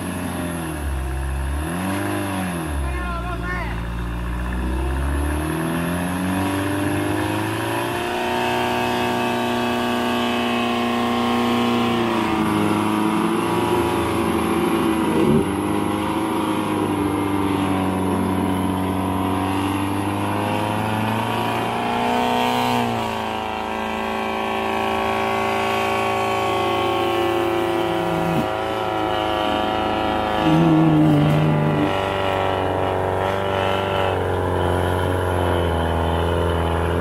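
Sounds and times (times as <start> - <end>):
vehicle engine revving: 0.0 - 37.0.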